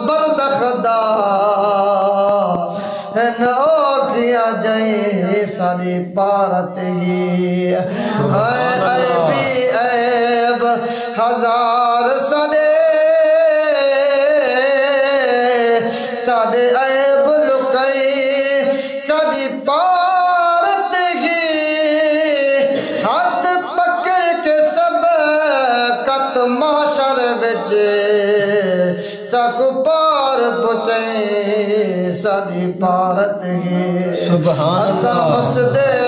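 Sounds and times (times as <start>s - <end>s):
man singing devotional song: 0.0s - 36.0s.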